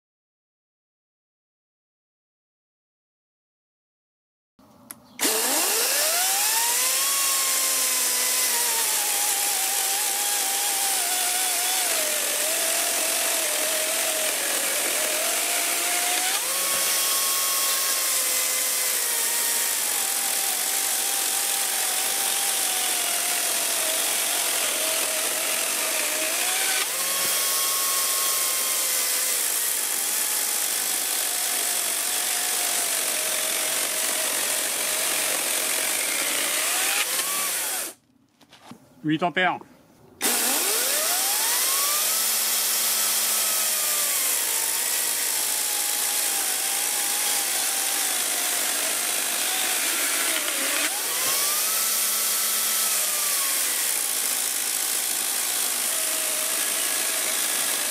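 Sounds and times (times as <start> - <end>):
electric chainsaw cutting wood: 5.2 - 38.0, 40.2 - 57.9.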